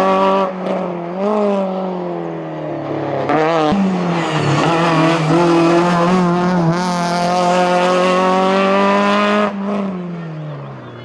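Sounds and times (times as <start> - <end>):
rally car engine at full throttle: 0.0 - 11.0.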